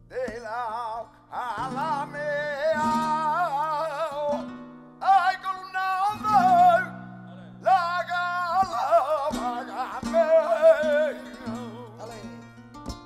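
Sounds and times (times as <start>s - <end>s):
guitar: 0.0s - 13.0s
man singing flamenco: 0.0s - 13.0s.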